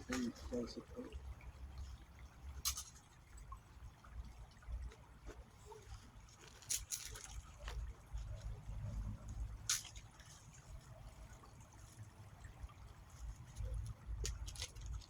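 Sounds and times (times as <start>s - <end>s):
creek water trickling: 0.0s - 15.0s.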